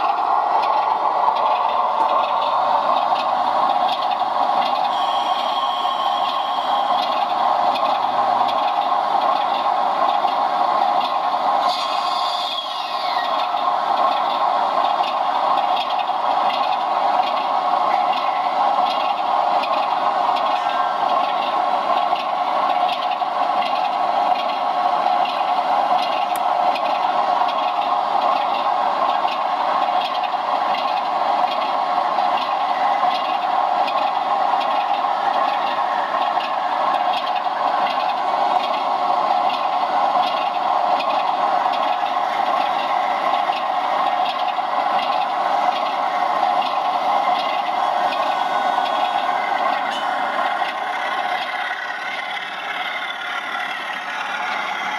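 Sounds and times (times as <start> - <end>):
model train mechanical hum: 0.0 - 54.9.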